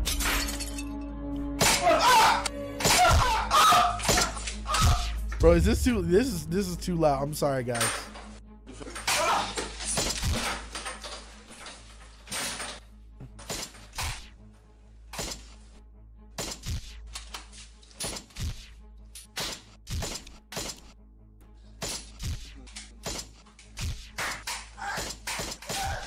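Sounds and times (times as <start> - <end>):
quiet background music: 0.0 - 26.0.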